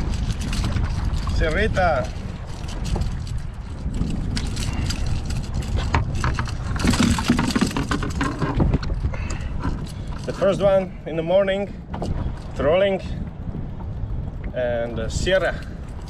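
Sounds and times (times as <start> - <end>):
water sloshing around kayak: 0.0 - 16.0
wind buffeting microphone: 0.0 - 16.0.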